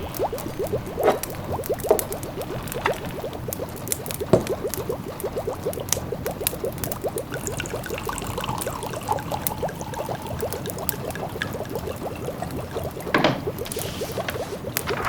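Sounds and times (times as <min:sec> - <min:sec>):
pot of food bubbling: 0:00.0 - 0:15.0
wood fire crackling faintly: 0:00.0 - 0:15.0.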